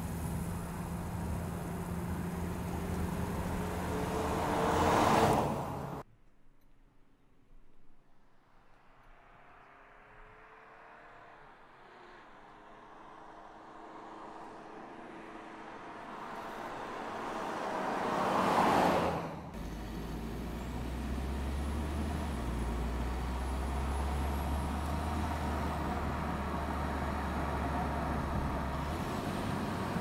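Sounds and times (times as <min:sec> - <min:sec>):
car driving past: 0:00.0 - 0:06.0, 0:09.2 - 0:30.0
low rumble of moving car: 0:00.0 - 0:06.0, 0:07.8 - 0:30.0.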